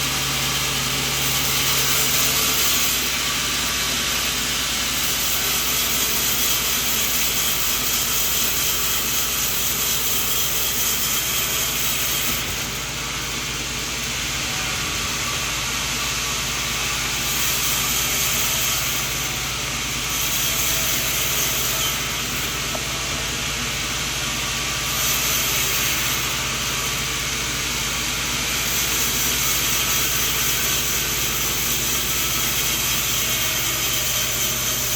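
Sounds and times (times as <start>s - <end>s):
saw blade hissing through wood: 0.0s - 34.9s
sawmill motor hum: 0.0s - 34.9s.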